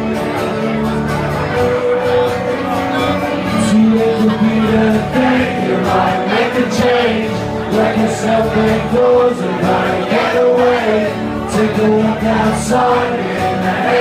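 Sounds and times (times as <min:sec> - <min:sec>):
live band with guitars: 0:00.0 - 0:14.0.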